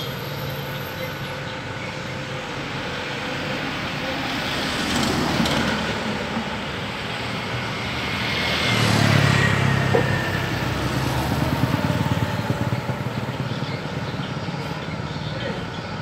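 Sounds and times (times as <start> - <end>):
motorcycle passing: 0.0 - 16.0
road traffic: 0.0 - 16.0
vehicle passing close: 1.6 - 16.0.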